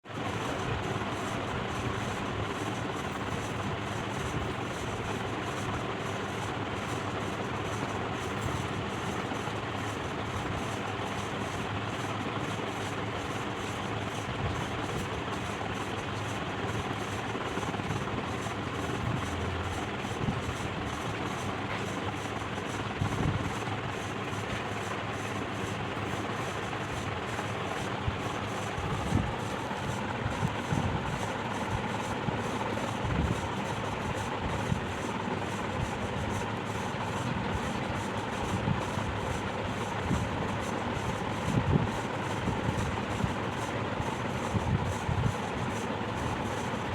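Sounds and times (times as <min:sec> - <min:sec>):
ceiling fan running: 0:00.0 - 0:46.9.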